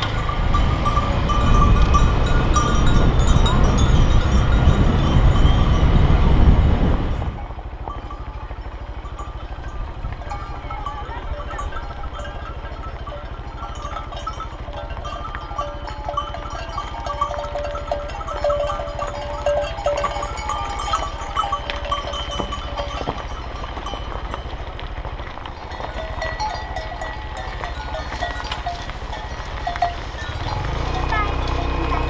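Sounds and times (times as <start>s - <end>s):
cowbells clanking: 0.0s - 6.5s, 7.3s - 32.0s
motorcycle engine running slowly: 0.0s - 32.0s.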